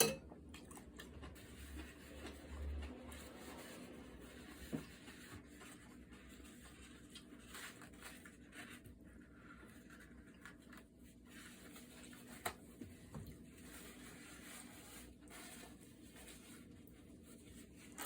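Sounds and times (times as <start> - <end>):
rustling handling noises: 0.0 - 18.0.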